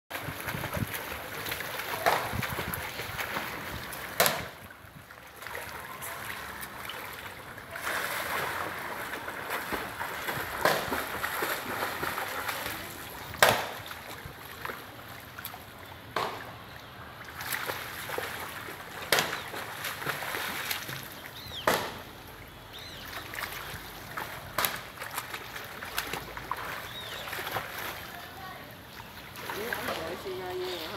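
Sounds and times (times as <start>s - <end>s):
swimmers splashing in pool: 0.1s - 16.6s, 17.3s - 30.9s.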